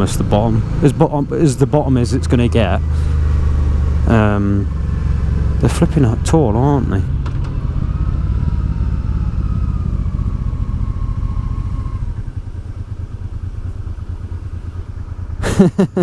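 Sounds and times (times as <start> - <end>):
motorcycle engine while riding: 0.0 - 16.0.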